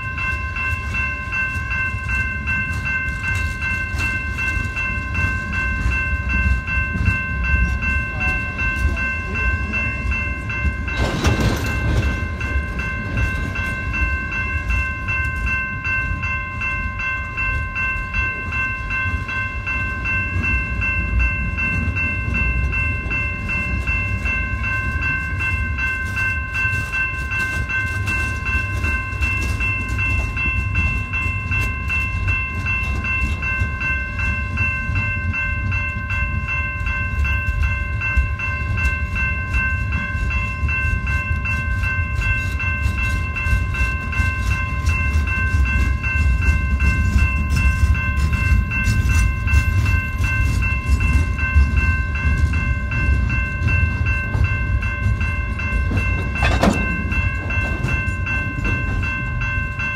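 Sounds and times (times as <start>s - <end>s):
crossing bell ringing: 0.0s - 59.9s
train wheels rumbling on rails: 0.0s - 59.9s.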